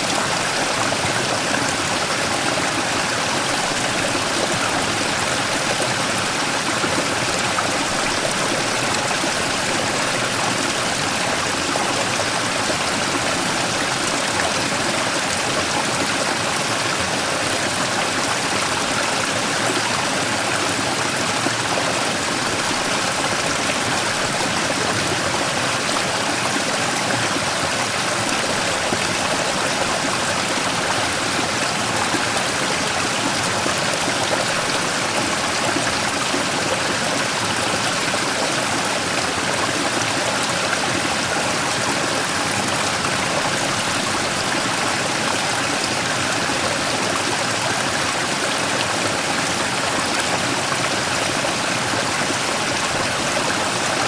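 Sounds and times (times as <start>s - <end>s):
stream rushing over rock: 0.0s - 54.0s.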